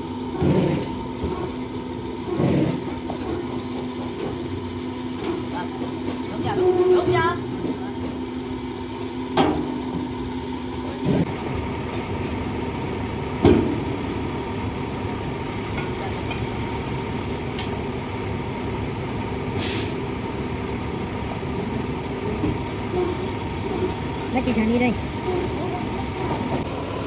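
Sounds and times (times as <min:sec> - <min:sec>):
vehicle rumble: 0:00.0 - 0:27.0.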